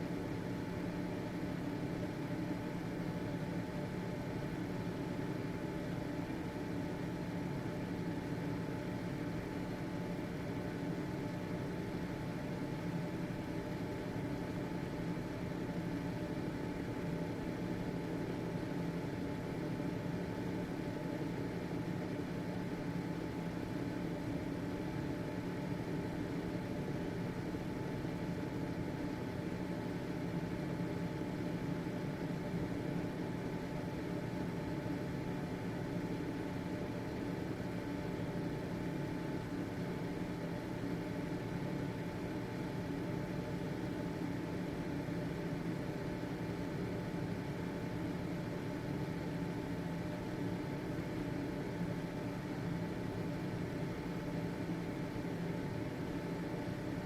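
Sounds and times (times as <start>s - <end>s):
ventilation fan humming: 0.0s - 57.0s.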